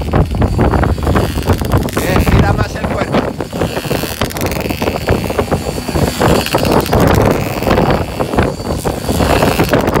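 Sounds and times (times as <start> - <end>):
two-stroke engine running: 0.0 - 10.0
wind buffeting microphone: 0.0 - 10.0.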